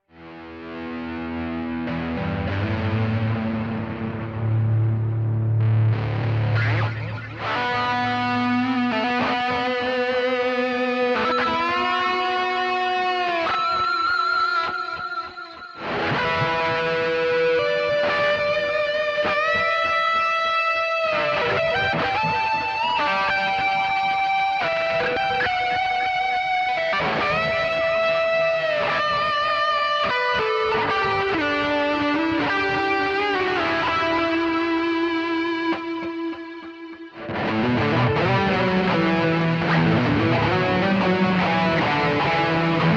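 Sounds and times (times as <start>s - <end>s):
distorted electric guitar lead: 0.0s - 42.9s.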